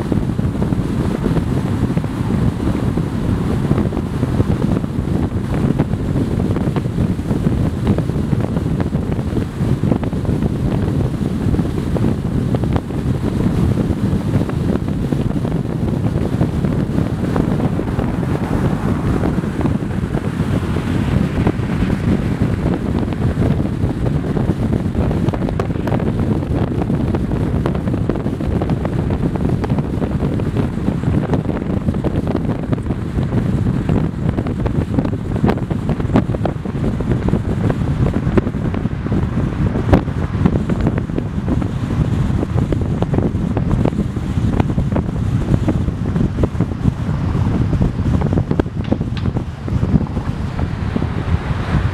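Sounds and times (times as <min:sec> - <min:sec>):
tyre and road rumble: 0:00.0 - 0:51.9
wind noise on microphone: 0:00.0 - 0:51.9.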